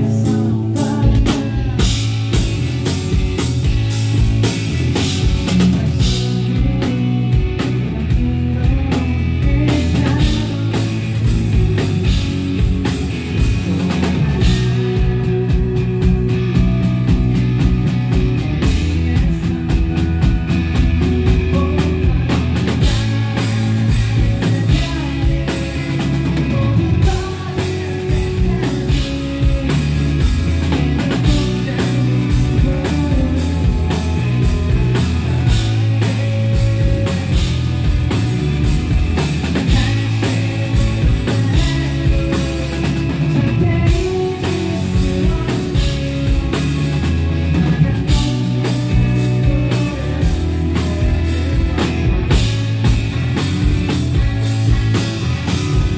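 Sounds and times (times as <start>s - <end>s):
man singing: 0.0s - 3.0s, 4.8s - 12.6s, 13.5s - 17.4s, 18.4s - 38.1s, 39.4s - 52.4s
bass guitar: 0.0s - 55.9s
drum kit steady beat: 0.0s - 55.9s
electric guitar: 0.0s - 55.9s.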